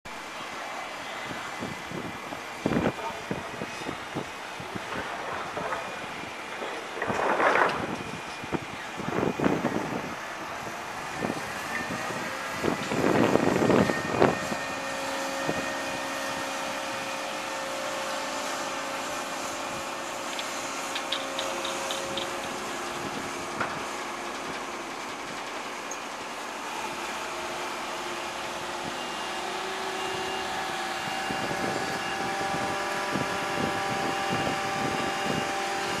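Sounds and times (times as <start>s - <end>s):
machinery engines humming: 0.1s - 36.0s.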